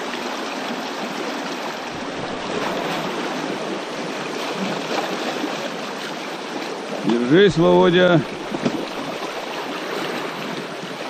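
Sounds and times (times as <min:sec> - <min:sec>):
river rushing over stones: 0:00.0 - 0:11.0.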